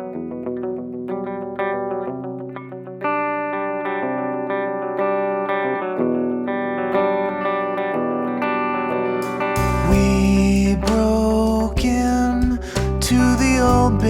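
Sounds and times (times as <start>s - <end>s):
guitar chords: 0.0s - 14.0s.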